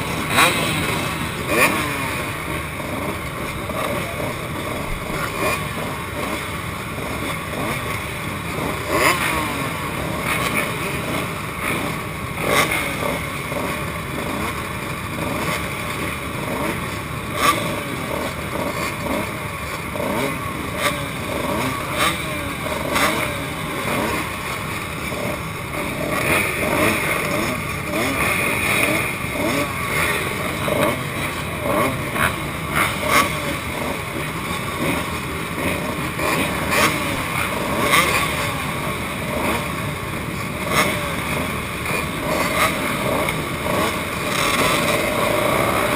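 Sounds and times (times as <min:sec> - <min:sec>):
motocross bikes idling: 0:00.0 - 0:45.9.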